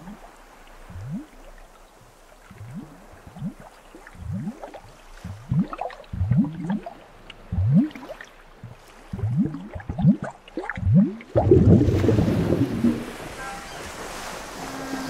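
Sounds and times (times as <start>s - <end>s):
water gurgling: 0.0s - 15.0s.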